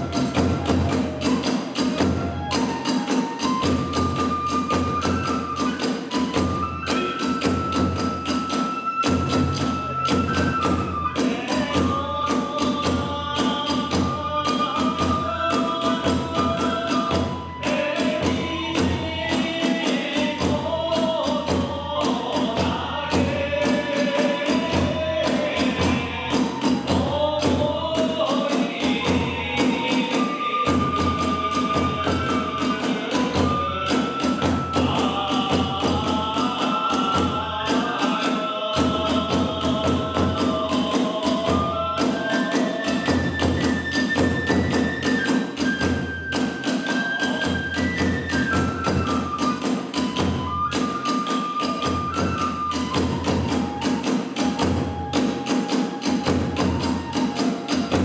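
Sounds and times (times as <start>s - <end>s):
bamboo flute melody: 0.0s - 58.0s
drums beating: 0.0s - 58.0s.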